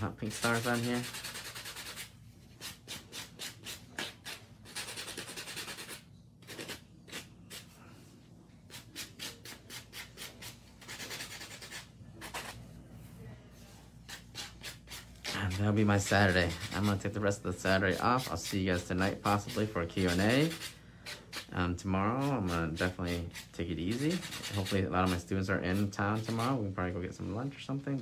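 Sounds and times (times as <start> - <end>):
nail buffer rubbing on nails: 0.2 - 7.8, 8.7 - 12.6, 14.0 - 21.5, 22.2 - 26.6.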